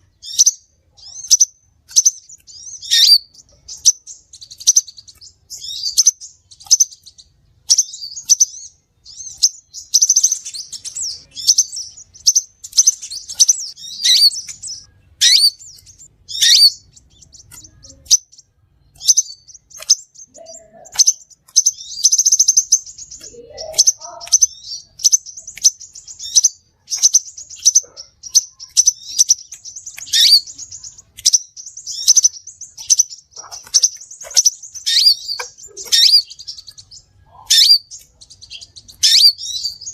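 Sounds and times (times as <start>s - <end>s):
sunbird chirping: 0.0s - 39.9s.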